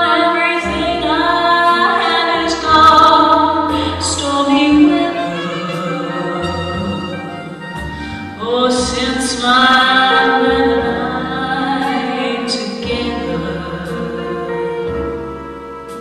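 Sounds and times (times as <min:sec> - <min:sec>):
woman singing: 0:00.0 - 0:07.8, 0:08.4 - 0:15.1
instrumental accompaniment with bass: 0:00.0 - 0:16.0.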